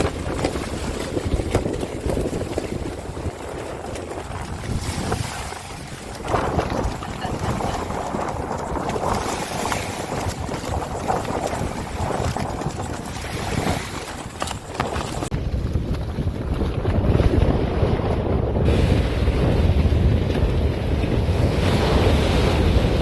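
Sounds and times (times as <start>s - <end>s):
sea noise: 0.0s - 23.0s
wind buffeting microphone: 0.0s - 23.0s.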